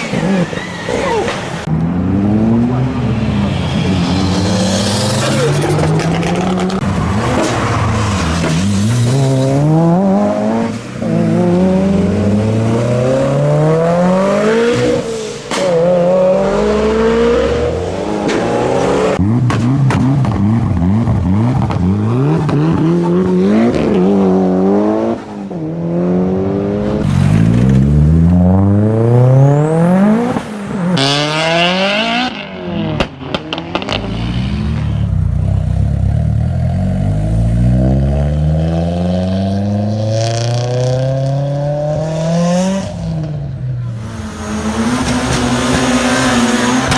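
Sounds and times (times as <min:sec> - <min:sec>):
car engine revving: 0:01.2 - 0:46.9.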